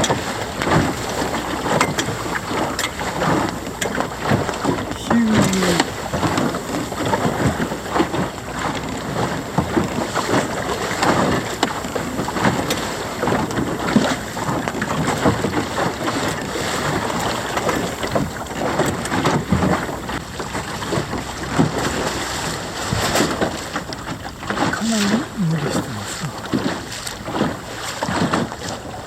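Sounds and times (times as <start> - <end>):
water slapping against boat hull: 0.0 - 29.0.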